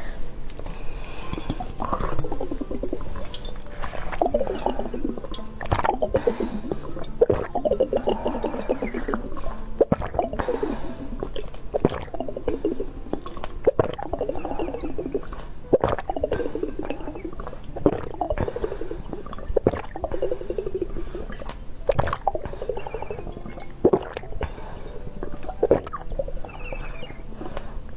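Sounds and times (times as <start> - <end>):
person gulping a drink: 0.7 - 27.6.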